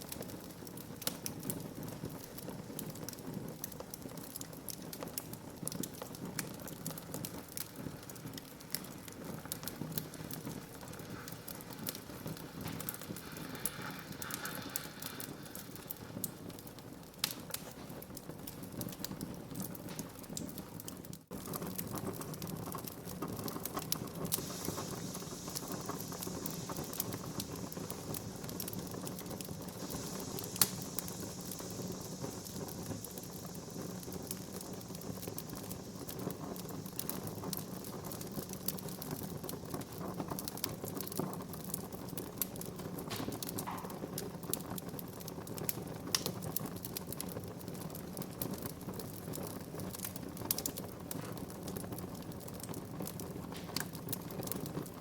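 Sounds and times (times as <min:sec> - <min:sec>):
wood fire crackling: 0:00.0 - 0:55.0
loud pop of fire: 0:00.1 - 0:52.0, 0:52.6 - 0:55.0.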